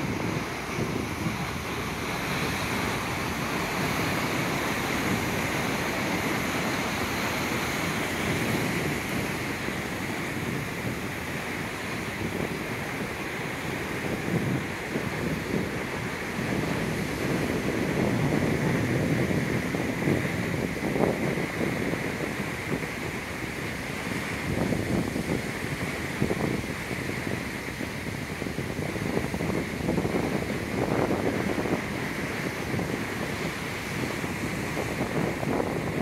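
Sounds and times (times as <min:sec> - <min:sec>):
surf breaking against rocks: 0:00.0 - 0:36.0
wind gusting on microphone: 0:00.0 - 0:36.0.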